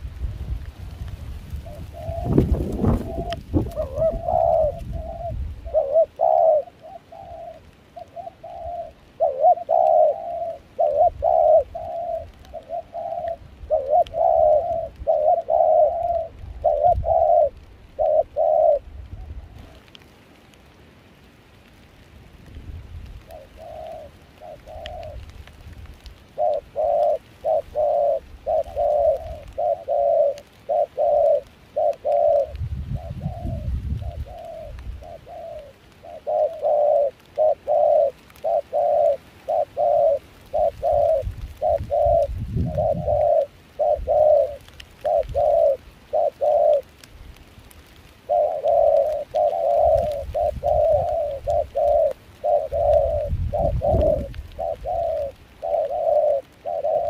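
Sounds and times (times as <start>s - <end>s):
dove cooing: 1.0s - 19.8s, 23.1s - 57.0s.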